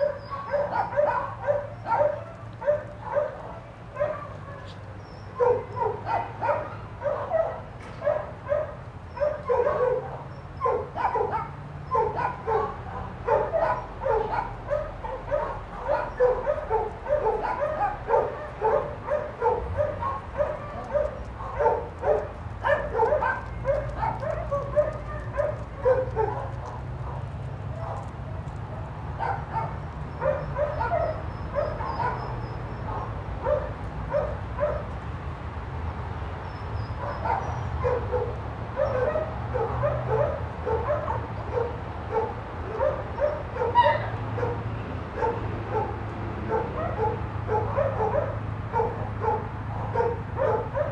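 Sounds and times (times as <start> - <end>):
dog barking: 0.0 - 35.0, 37.0 - 50.9.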